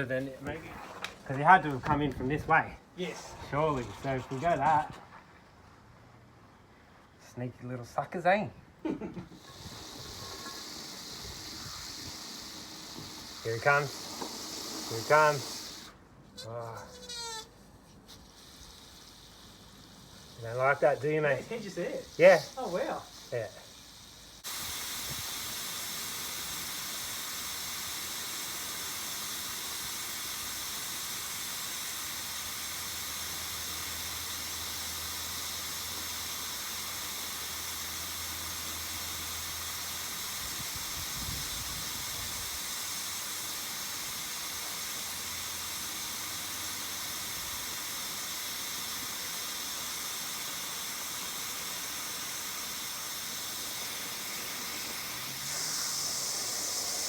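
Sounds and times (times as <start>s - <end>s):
spraying water hiss: 0.0s - 5.6s, 8.8s - 57.0s.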